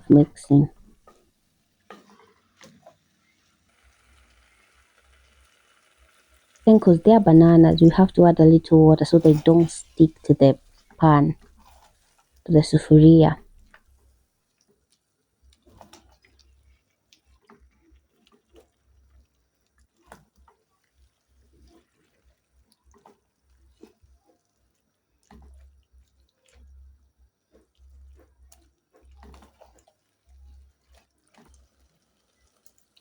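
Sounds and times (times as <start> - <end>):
faint water drips: 0.0 - 33.0.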